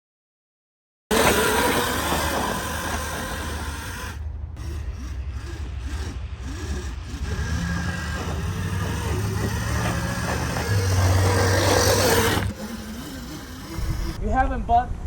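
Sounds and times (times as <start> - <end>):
dirt bike scraping on snow: 1.1 - 14.2
low engine hum: 1.1 - 14.2.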